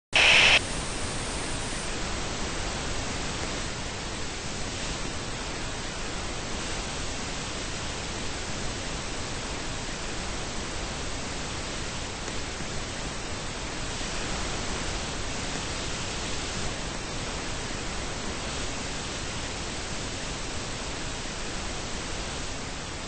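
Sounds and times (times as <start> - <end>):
steady static hiss: 0.0 - 23.0.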